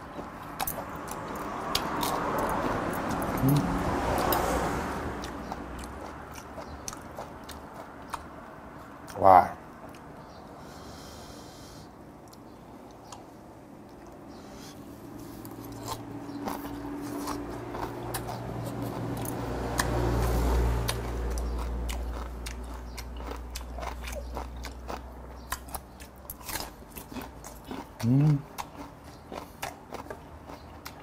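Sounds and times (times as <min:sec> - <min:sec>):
wet chewing and crunching: 0:00.0 - 0:10.5, 0:12.0 - 0:31.0.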